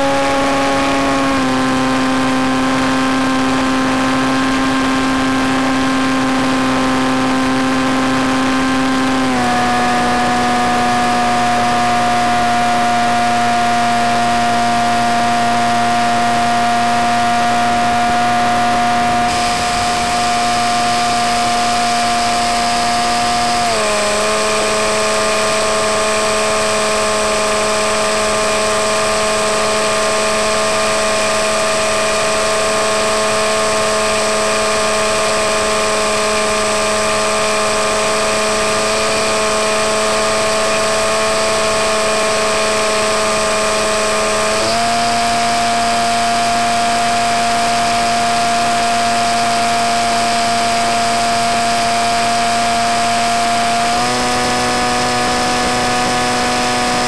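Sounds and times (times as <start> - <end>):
model plane motor whining: 0.0 - 57.0.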